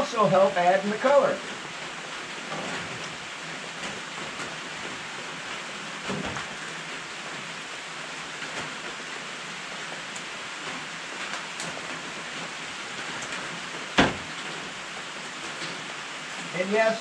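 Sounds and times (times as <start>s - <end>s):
rain on a metal roof: 0.0s - 17.0s.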